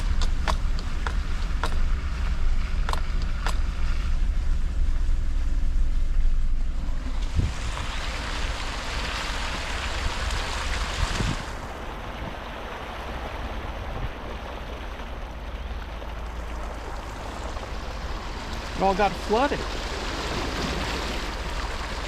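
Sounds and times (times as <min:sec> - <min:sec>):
tyres ploughing through floodwater: 0:00.0 - 0:05.5, 0:06.6 - 0:22.0
vehicle engine and tyre rumble: 0:00.0 - 0:22.0.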